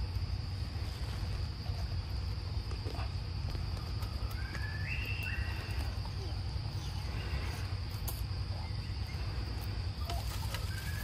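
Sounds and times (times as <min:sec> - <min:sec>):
forest insects droning: 0:00.0 - 0:11.0.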